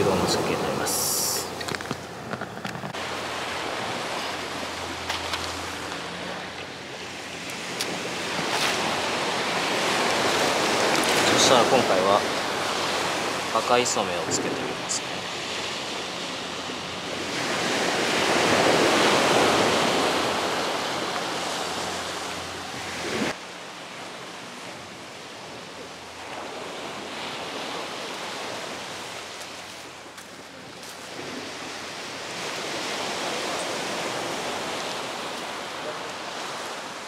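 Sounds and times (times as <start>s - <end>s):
waves on pebble beach: 0.0s - 37.0s.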